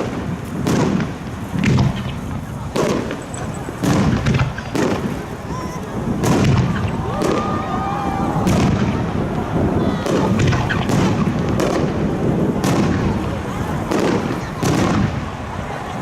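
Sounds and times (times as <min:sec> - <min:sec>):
fireworks bangs: 0:00.0 - 0:16.0
low rumble of fireworks: 0:00.0 - 0:16.0.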